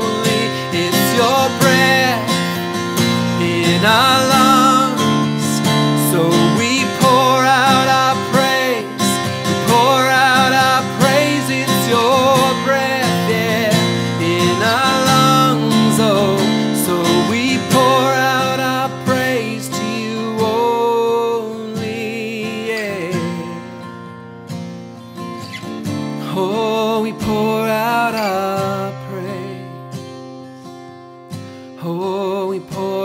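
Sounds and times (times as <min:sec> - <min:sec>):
man singing with vibrato: 0:00.0 - 0:24.0, 0:26.0 - 0:30.1, 0:31.6 - 0:33.0
strummed acoustic guitar: 0:00.0 - 0:33.0.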